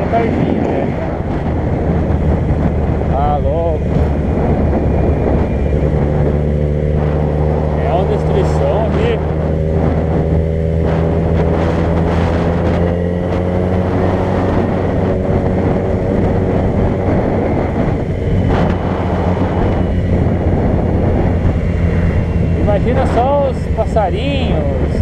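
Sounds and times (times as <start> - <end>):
road noise: 0.0 - 25.0
vehicle engine hum: 0.0 - 25.0.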